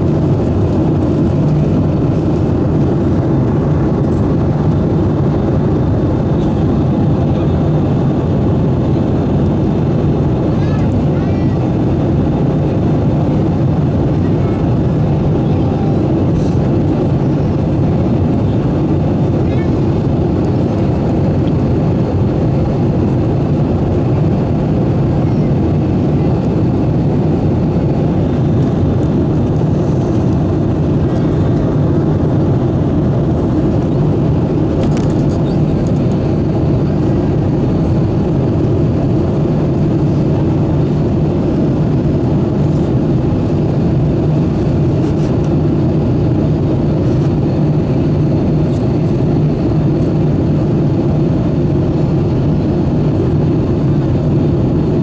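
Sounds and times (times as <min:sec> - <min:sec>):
airplane cabin engine drone: 0:00.0 - 0:55.0
rushing airflow: 0:00.0 - 0:55.0.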